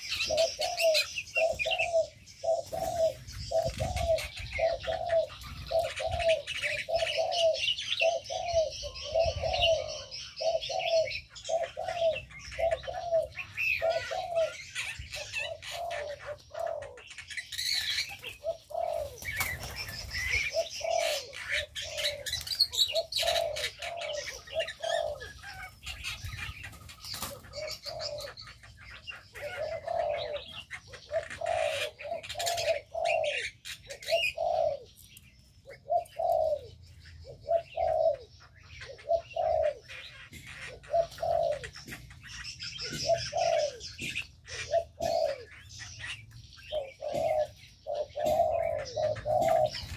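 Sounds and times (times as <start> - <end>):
birds chirping and calling: 0.0 - 49.9
repeated low bird call: 0.0 - 49.9.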